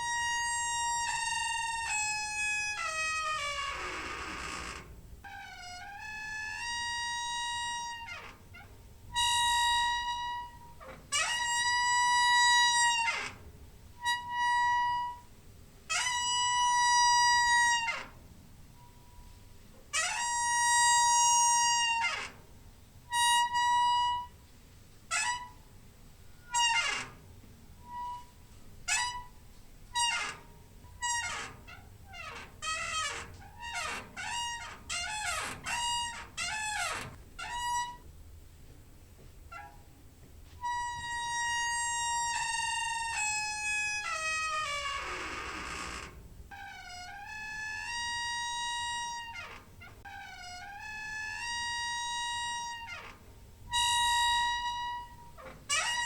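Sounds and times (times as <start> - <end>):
door hinge squeaking: 0.0 - 15.3, 15.9 - 18.2, 18.8 - 22.5, 23.1 - 24.4, 25.1 - 25.7, 26.3 - 38.1, 39.5 - 40.0, 40.6 - 56.0.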